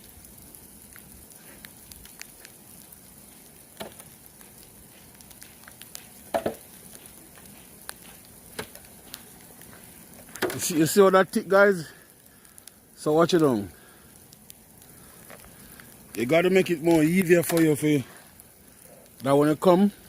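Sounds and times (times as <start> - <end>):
faint crackling hiss: 0.0 - 20.0.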